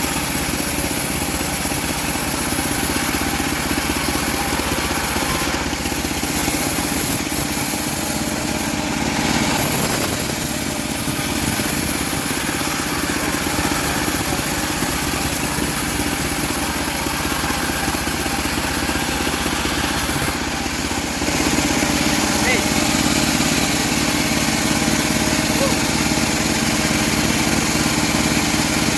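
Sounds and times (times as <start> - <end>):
bandsaw blade cutting wood: 0.0 - 28.9
sawmill engine running: 0.0 - 28.9.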